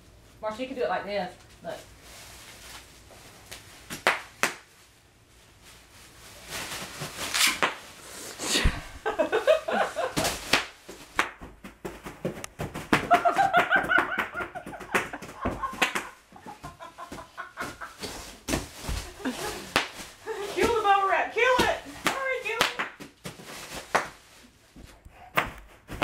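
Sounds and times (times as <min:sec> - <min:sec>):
bubble wrap popping and crinkling: 0:01.4 - 0:08.1, 0:09.2 - 0:26.0.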